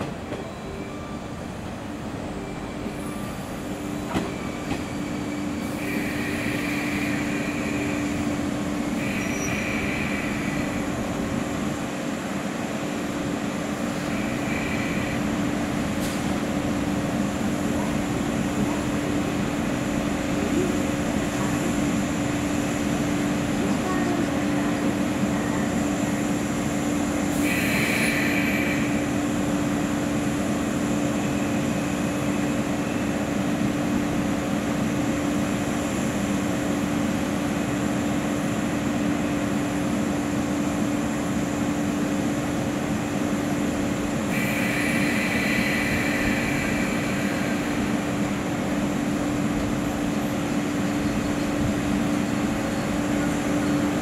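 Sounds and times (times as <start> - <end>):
train electrical hum: 0.0 - 54.0.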